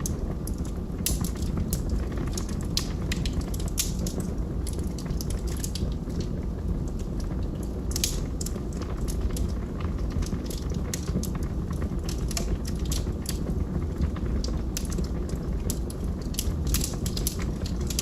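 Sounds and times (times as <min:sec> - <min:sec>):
logs crackling and popping: 0:00.0 - 0:18.0
wood fire rumbling: 0:00.0 - 0:18.0.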